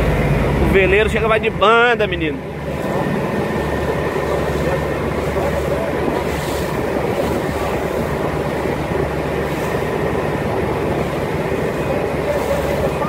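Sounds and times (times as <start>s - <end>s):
motorboat engine droning: 0.0s - 13.0s
water rushing: 0.0s - 13.0s
wind: 0.0s - 13.0s.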